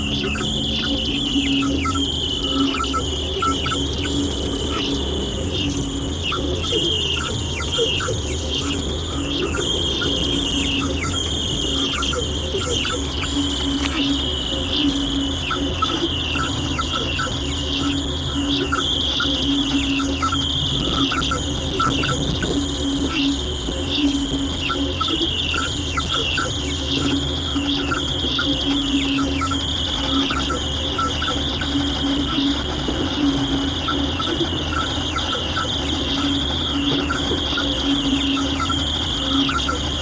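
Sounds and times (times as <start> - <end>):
radio low and high tones: 0.0 - 40.0
steady low hum: 0.0 - 40.0.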